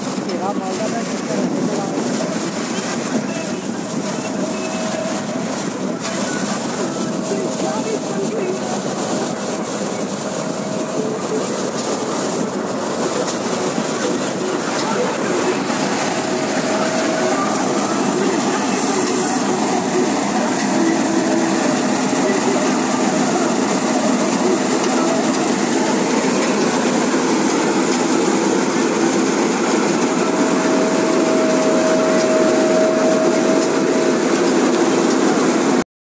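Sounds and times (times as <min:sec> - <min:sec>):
combine harvester droning: 0:00.0 - 0:35.8
faint steady whine: 0:02.3 - 0:35.8.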